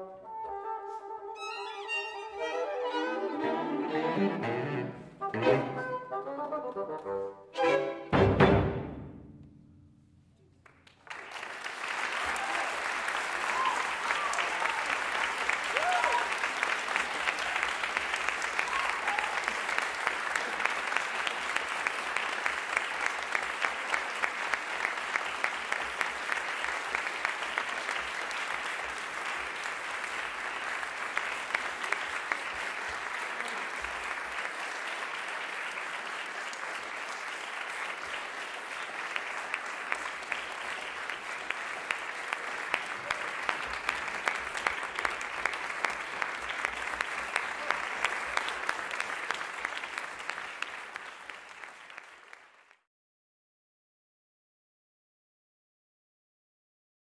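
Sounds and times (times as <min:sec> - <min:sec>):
audience applauding: 0:01.4 - 0:08.0, 0:10.6 - 0:52.9.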